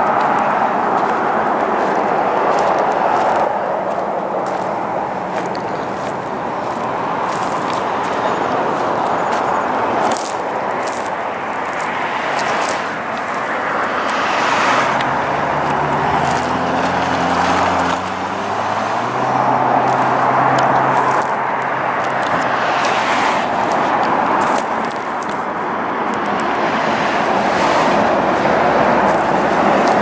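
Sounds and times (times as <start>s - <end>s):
road noise: 0.0s - 30.0s
vehicle engine hum: 0.0s - 30.0s
wind: 0.0s - 30.0s.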